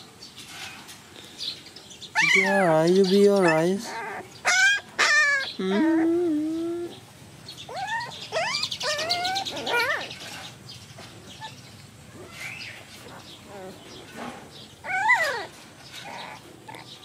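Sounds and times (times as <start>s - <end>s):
puppies whining: 2.1s - 10.6s, 11.2s - 17.0s.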